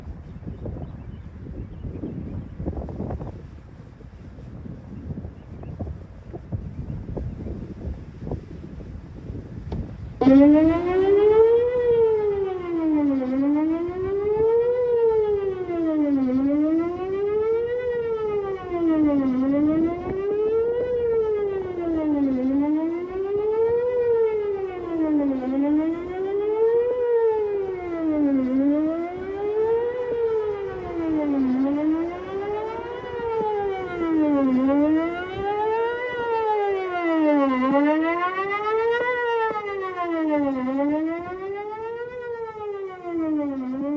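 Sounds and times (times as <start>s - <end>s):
rising and falling warning siren: 0.0s - 43.9s.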